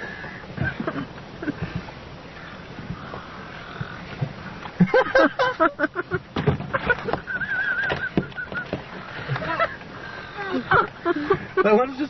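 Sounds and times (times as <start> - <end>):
seagulls squawking: 0.0 - 12.0.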